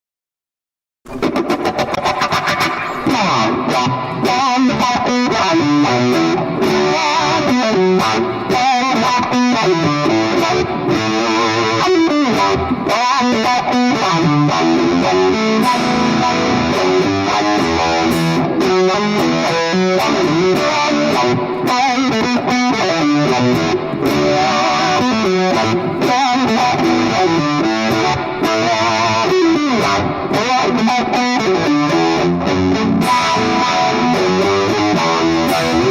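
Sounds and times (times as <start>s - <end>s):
distorted electric guitar riff: 1.1s - 35.9s.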